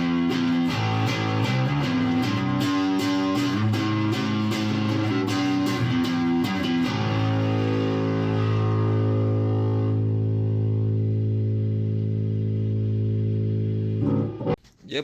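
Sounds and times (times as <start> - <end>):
electric bass guitar notes: 0.0 - 14.6.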